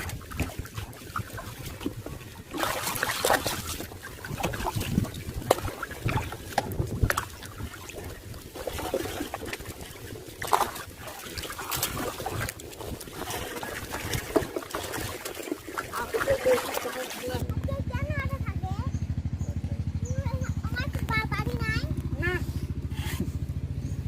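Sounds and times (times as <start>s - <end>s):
muddy water splashing: 0.0s - 23.8s.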